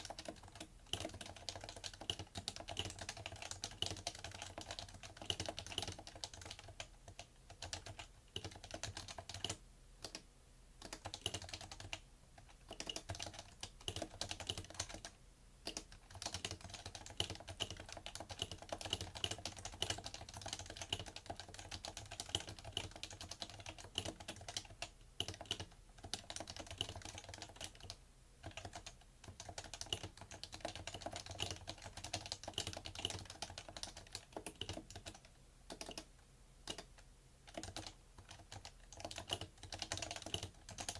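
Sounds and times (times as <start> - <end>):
keyboard typing: 0.0 - 40.9.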